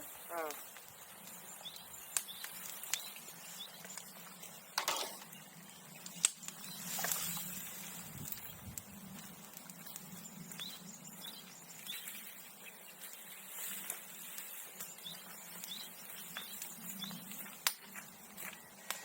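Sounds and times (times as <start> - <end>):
small crackles: 0.0 - 19.0.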